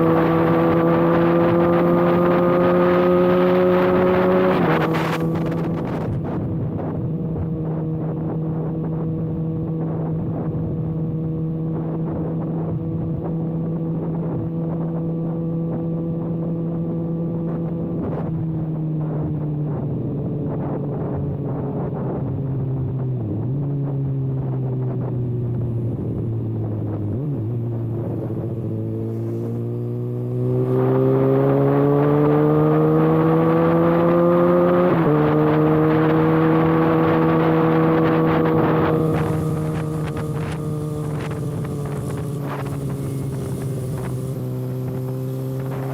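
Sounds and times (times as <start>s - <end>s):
motorcycle engine: 0.0s - 18.0s, 24.4s - 45.9s.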